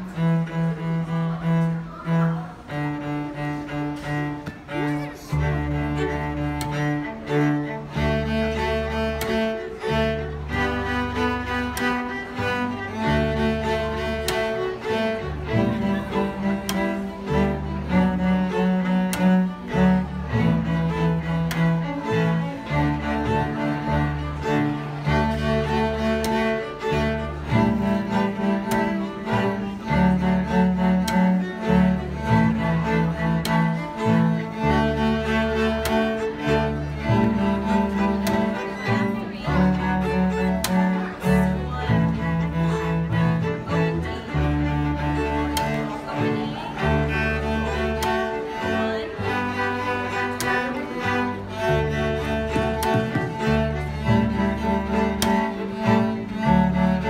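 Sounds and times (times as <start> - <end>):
string ensemble playing: 0.0 - 57.0.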